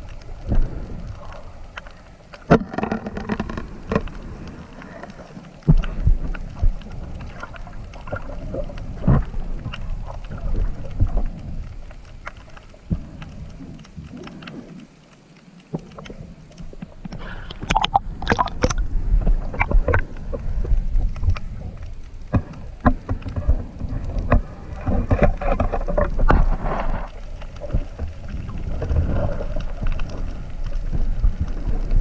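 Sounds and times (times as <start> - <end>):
low underwater rumble: 0.0 - 15.0, 15.6 - 32.0.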